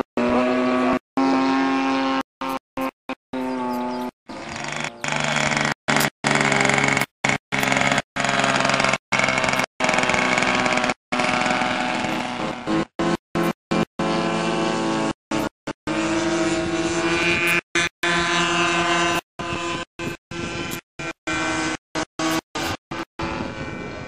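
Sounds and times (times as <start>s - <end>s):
model airplane engine: 0.0s - 24.0s.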